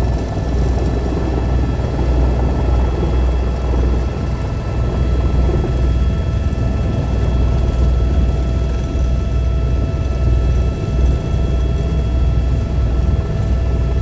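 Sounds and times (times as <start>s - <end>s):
helicopter rotor rumble: 0.0s - 14.0s
turbine engine whine: 0.0s - 14.0s.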